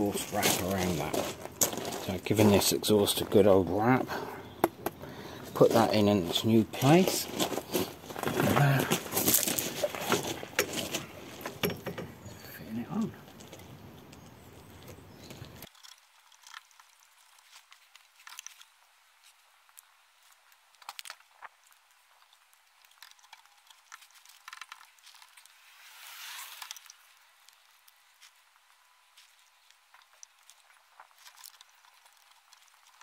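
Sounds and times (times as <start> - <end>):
low background noise: 0.0 - 33.0.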